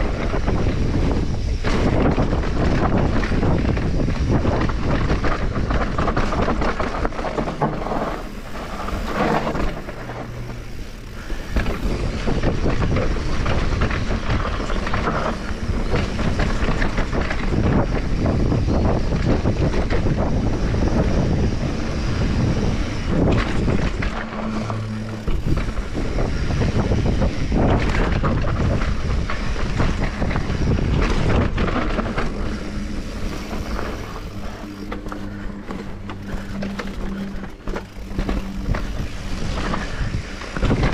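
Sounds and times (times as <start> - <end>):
bike rattling over rough ground: 0.0 - 40.9
tyre and wind rush: 0.0 - 40.9.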